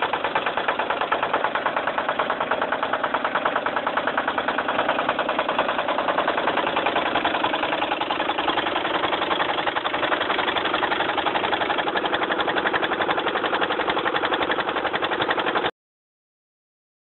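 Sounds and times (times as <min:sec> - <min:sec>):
diesel engine running: 0:00.0 - 0:15.7.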